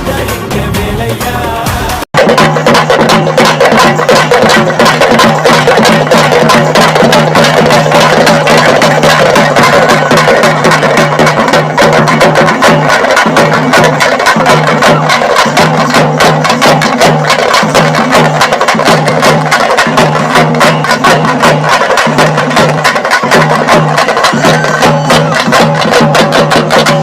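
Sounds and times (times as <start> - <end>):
music with fast drumming: 0.0 - 27.0.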